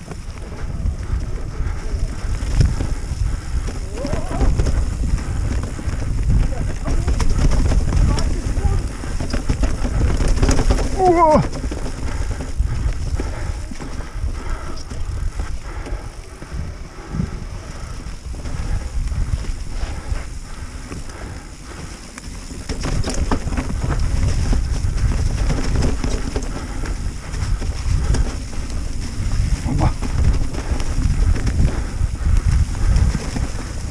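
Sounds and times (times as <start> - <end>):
bike rattles and clicks: 0.0 - 33.9
tyres rumbling on trail: 0.0 - 33.9
wind buffeting microphone: 0.0 - 33.9.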